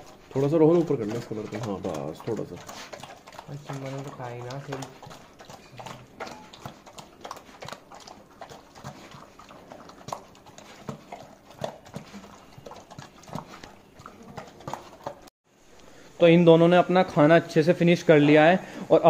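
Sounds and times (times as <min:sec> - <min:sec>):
puppy chewing and licking: 0:00.0 - 0:15.3.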